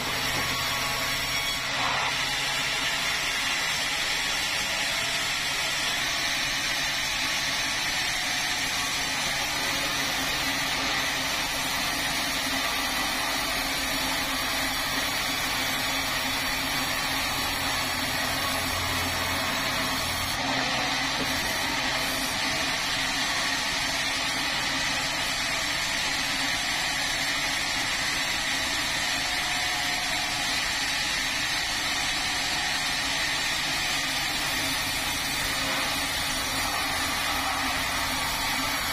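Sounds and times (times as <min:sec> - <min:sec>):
engine-driven saw cutting log: 0:00.0 - 0:38.9.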